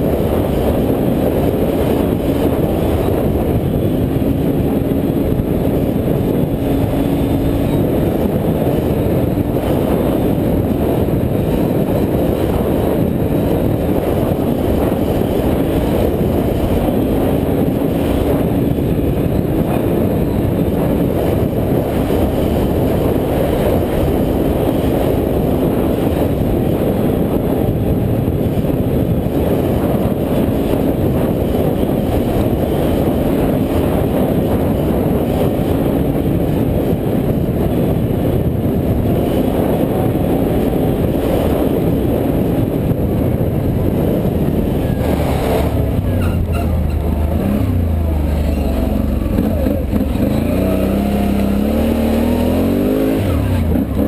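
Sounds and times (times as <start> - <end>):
atv engine cruising: 0.0 - 54.0
tyre noise on dirt road: 0.0 - 54.0
wind rush: 0.0 - 54.0.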